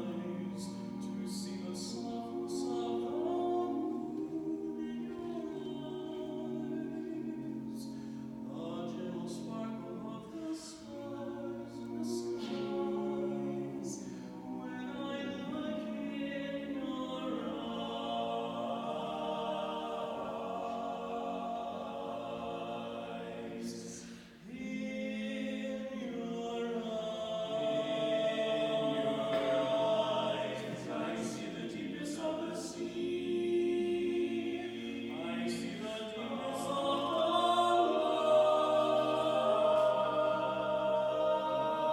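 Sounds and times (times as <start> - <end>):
a cappella close-harmony singing: 0.0 - 41.9.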